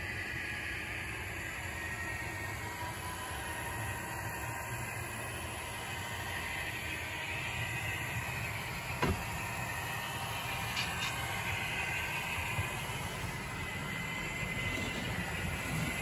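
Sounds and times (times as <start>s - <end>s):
model locomotive humming: 0.0s - 16.0s.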